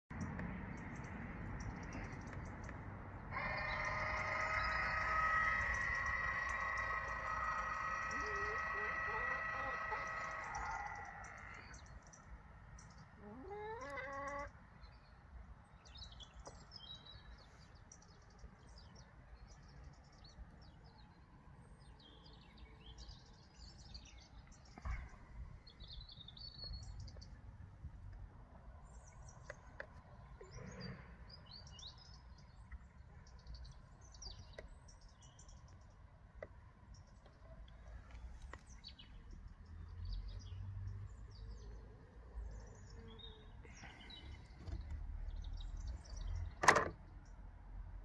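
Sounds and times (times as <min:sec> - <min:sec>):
birds chirping: 0:00.1 - 0:47.4.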